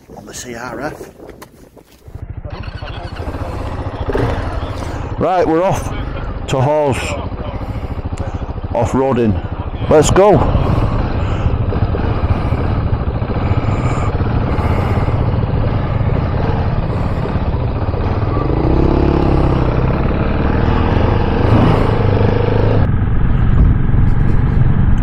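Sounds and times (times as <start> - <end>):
wind rushing over microphone: 0.0 - 6.5, 7.2 - 25.0
motorcycle engine running: 1.9 - 25.0.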